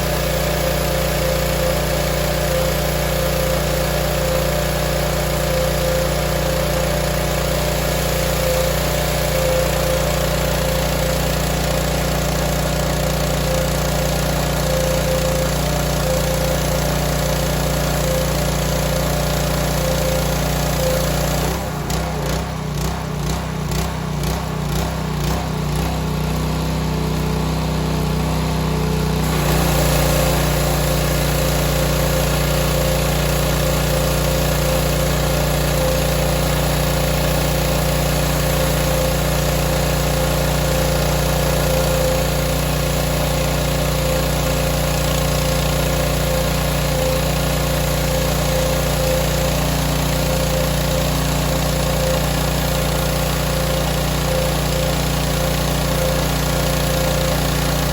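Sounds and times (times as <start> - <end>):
small gasoline engine running: 0.0 - 57.9.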